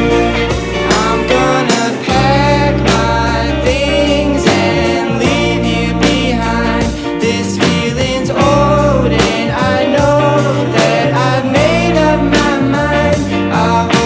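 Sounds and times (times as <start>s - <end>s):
indie pop song: 0.0s - 14.0s.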